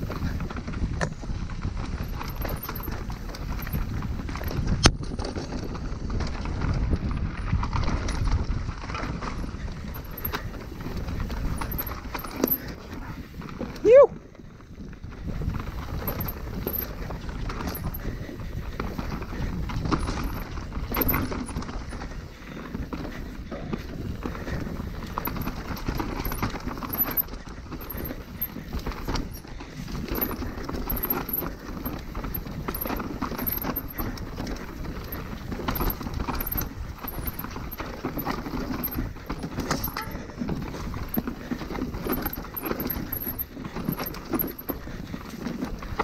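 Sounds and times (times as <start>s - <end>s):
bike rattling and knocking: 0.0s - 46.0s
tyres rolling over dirt: 0.0s - 46.0s.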